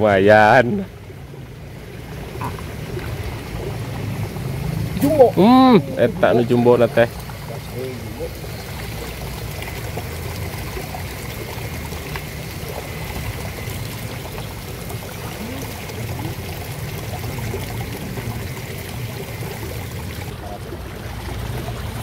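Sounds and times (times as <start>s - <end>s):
water splashing into a pond: 0.4s - 22.0s.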